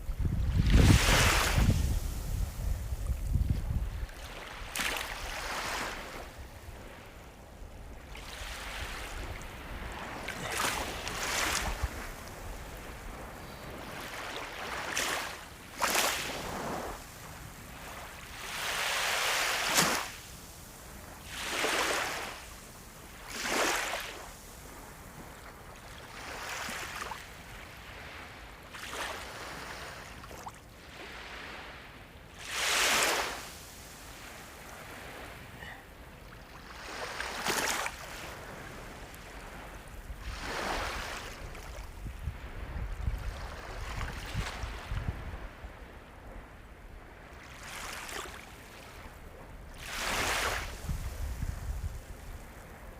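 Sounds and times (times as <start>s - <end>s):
steady wash of the sea: 0.0s - 52.9s
ocean waves breaking: 0.5s - 3.1s, 4.0s - 20.2s, 21.2s - 24.3s, 27.9s - 44.8s, 47.2s - 51.1s.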